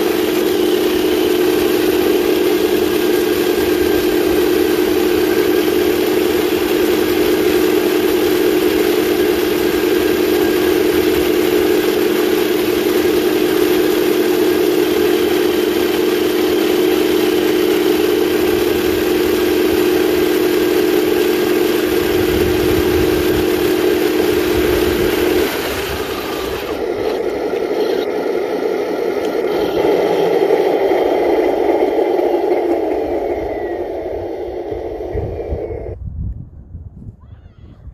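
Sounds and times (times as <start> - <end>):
rough noisy engine sound: 0.0 - 36.0
simulated engine humming: 0.0 - 36.0.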